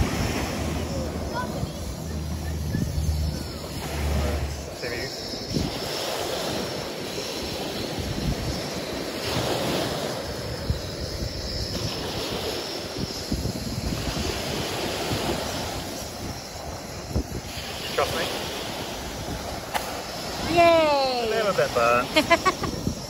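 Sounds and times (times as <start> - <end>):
sea surf: 0.0 - 23.0
wind on microphone: 0.0 - 23.0.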